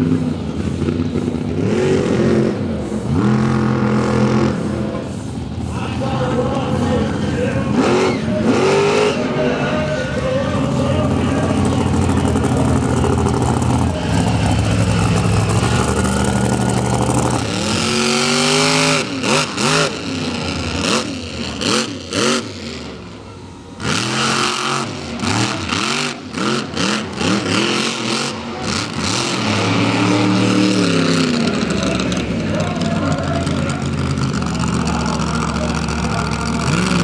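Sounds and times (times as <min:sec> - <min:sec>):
monster truck engine revving: 0:00.0 - 0:37.0.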